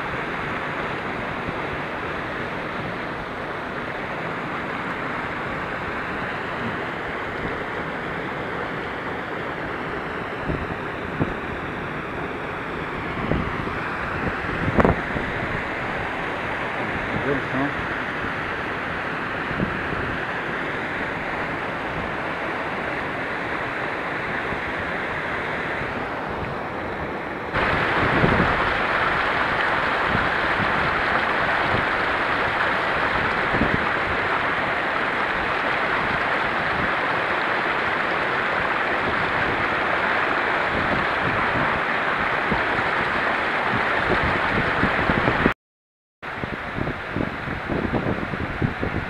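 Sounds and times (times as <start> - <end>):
small waterfall cascading: 0.0 - 45.5
mountain stream rushing: 0.0 - 45.6, 46.3 - 49.0.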